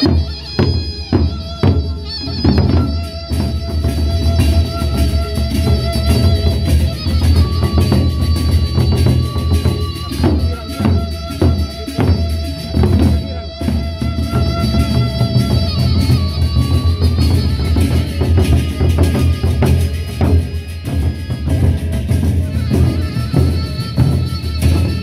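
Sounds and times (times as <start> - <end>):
barrel drums beaten with sticks: 0.0 - 25.0.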